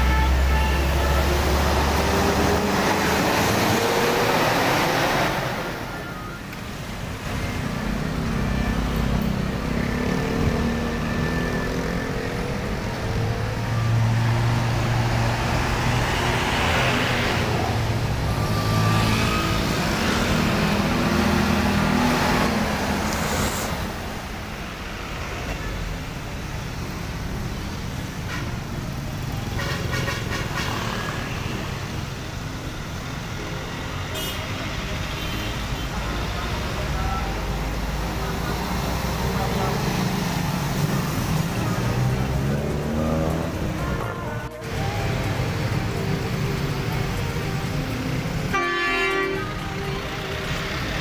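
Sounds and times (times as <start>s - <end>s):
motorbikes and cars passing: 0.0s - 51.0s.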